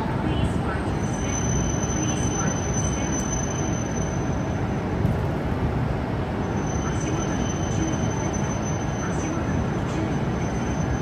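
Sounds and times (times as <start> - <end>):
train equipment rumble and hiss: 0.0 - 11.0.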